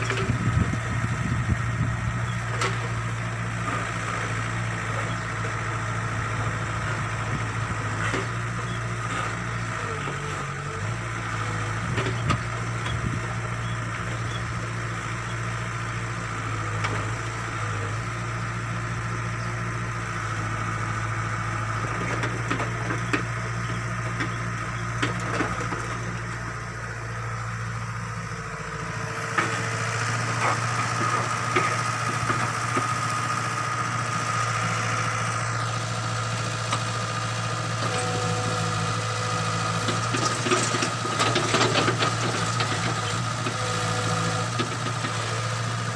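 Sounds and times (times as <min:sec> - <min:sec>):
backhoe diesel engine running: 0:00.0 - 0:45.9.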